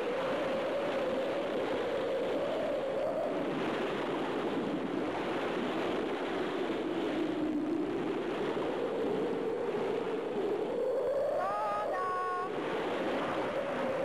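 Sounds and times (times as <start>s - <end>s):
wind howling: 0.0s - 14.0s.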